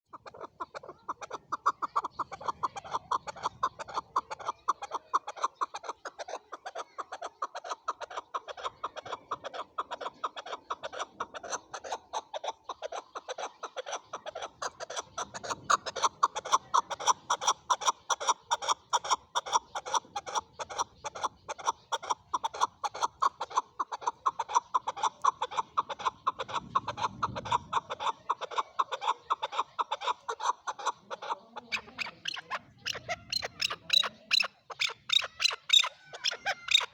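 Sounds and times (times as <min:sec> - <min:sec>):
partridge calling: 0:00.1 - 0:06.4, 0:07.6 - 0:36.9.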